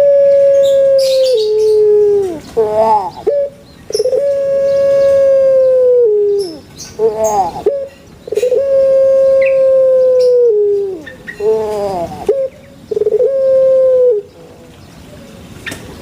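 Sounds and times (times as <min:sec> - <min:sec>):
dove cooing: 0:00.0 - 0:14.5.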